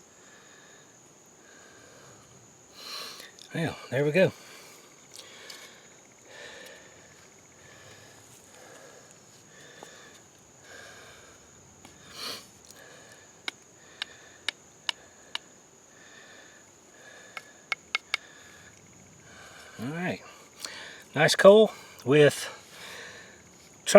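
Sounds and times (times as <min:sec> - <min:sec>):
high insect drone: 0:00.0 - 0:23.9
man breathing hard: 0:00.1 - 0:03.4, 0:04.3 - 0:21.1, 0:21.7 - 0:23.4.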